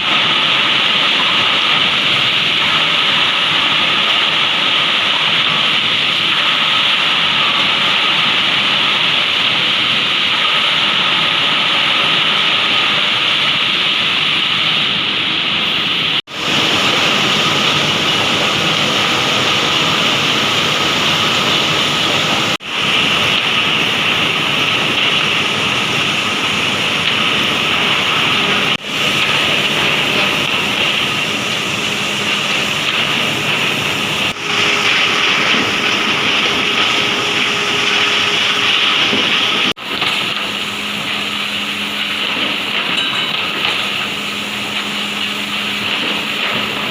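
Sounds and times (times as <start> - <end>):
woodworking machinery running: 0.0 - 46.9.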